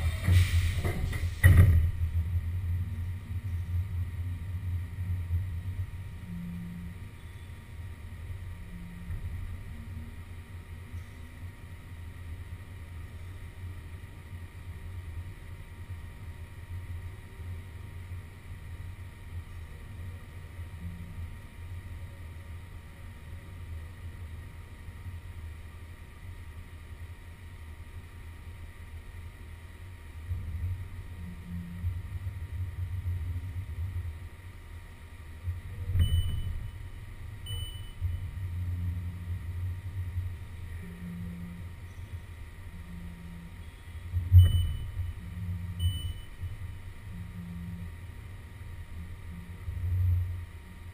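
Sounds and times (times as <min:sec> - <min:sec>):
faint machine whine: 0:00.0 - 0:50.9
milling machine low hum: 0:00.0 - 0:50.9.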